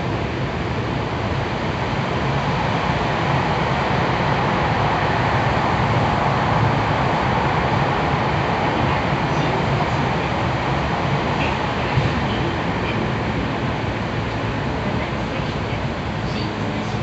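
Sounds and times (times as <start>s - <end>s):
train rumbling in a tunnel: 0.0s - 17.0s.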